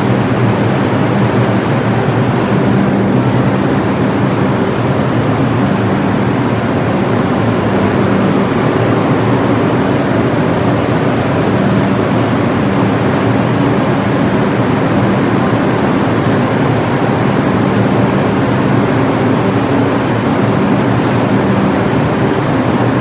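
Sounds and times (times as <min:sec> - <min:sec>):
subway train rumble and hum: 0:00.0 - 0:23.0.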